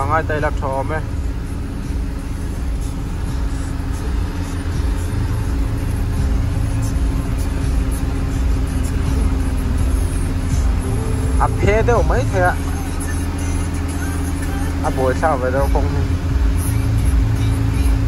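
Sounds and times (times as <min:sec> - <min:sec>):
light rattles in cabin: 0:00.0 - 0:18.0
vehicle rumbling on dirt road: 0:00.0 - 0:18.0.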